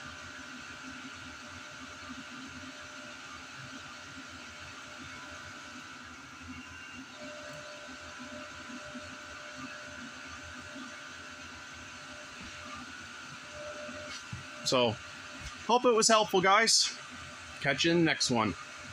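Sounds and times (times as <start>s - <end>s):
constant whine: 0.0s - 18.9s
heater blower whirring: 0.0s - 18.9s.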